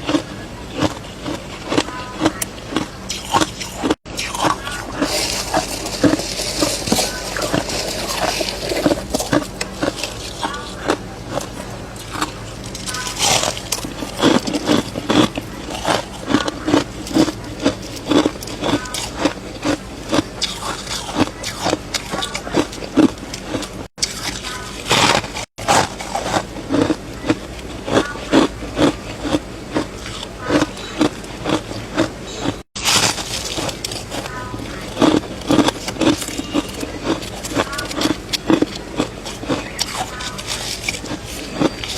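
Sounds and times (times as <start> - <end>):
chewing and crunching frost: 0.0 - 41.9.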